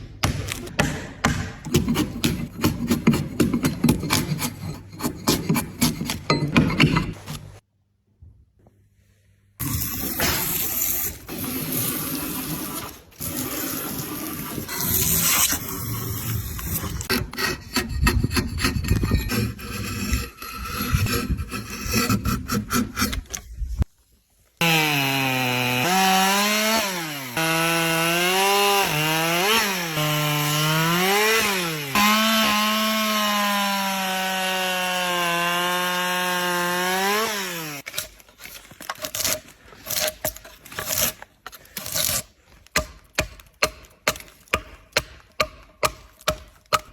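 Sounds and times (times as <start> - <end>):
hand tools scraping and sawing wood: 1.7 - 7.6, 9.6 - 23.9, 25.8 - 46.9.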